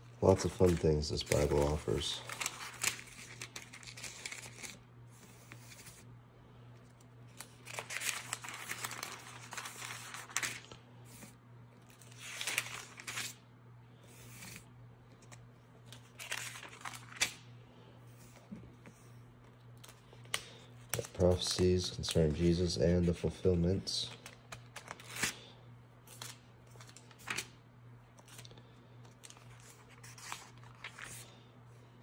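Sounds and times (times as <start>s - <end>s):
pages turning: 0.2s - 6.0s, 6.8s - 13.4s, 14.1s - 17.4s, 18.1s - 25.4s, 26.0s - 28.5s, 29.1s - 31.4s.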